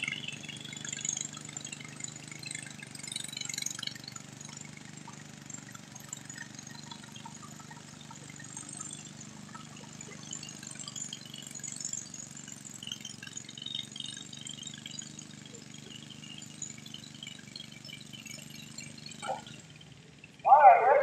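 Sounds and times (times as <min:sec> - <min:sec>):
distant tractor engine idling: 0:01.9 - 0:21.0.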